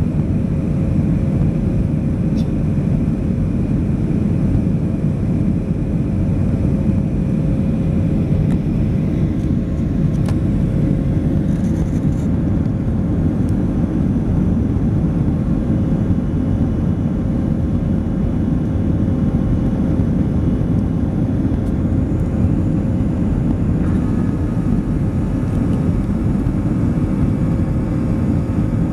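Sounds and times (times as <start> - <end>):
jet engines roaring: 0.0 - 28.9.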